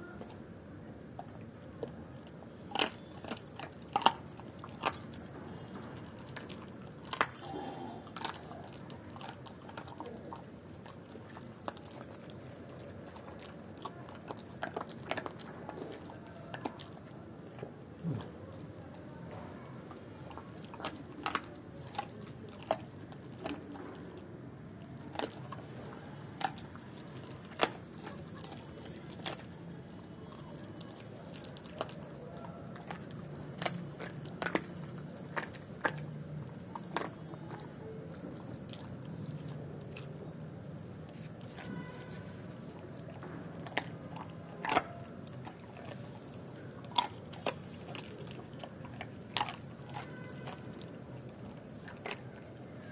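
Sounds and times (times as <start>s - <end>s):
dog chewing and crunching bones: 0.0s - 52.9s.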